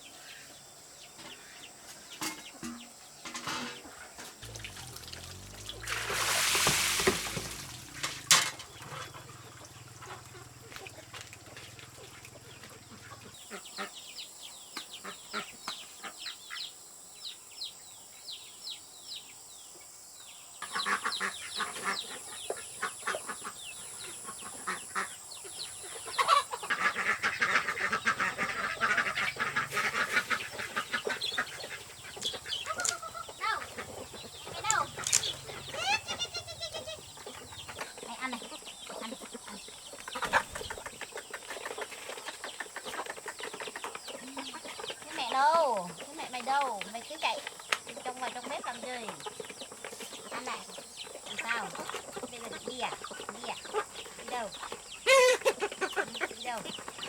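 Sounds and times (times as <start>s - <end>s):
chickens calling: 0.0s - 16.8s, 20.6s - 57.0s.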